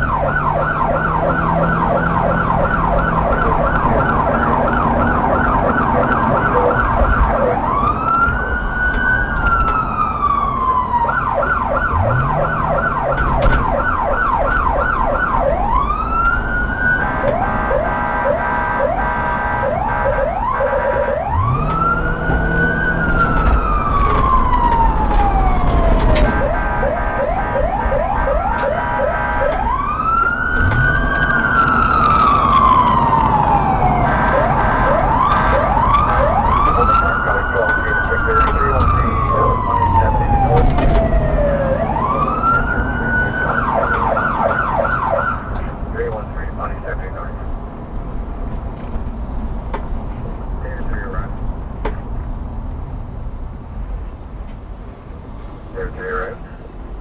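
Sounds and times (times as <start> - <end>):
police siren yelp and wail: 0.0 - 47.4.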